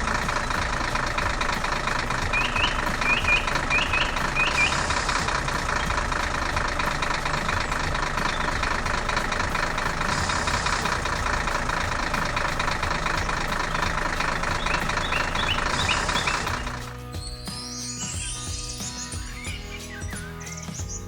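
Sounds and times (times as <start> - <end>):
heavy machine engine knocking: 0.0 - 17.5.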